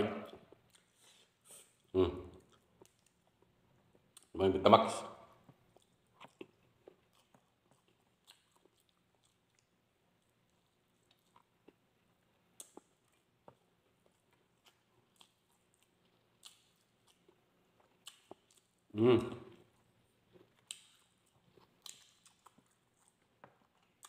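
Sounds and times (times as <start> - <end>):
chewing meat: 0.0 - 4.4, 5.1 - 24.0.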